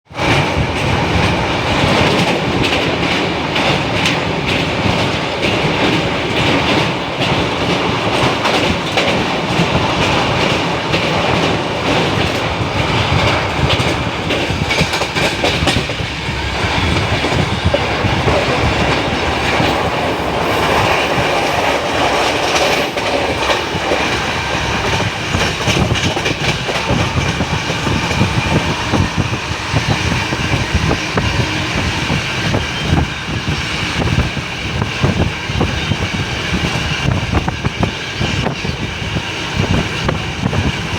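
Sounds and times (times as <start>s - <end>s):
train rumbling on track: 0.0s - 40.9s
wheels clacking on rails: 0.1s - 40.9s.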